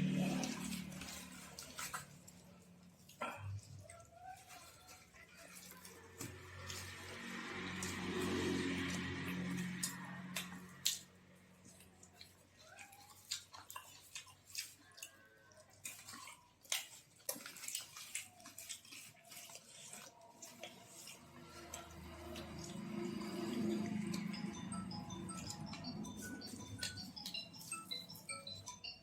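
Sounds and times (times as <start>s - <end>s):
wet chewing and mouth sounds: 0.0s - 29.0s.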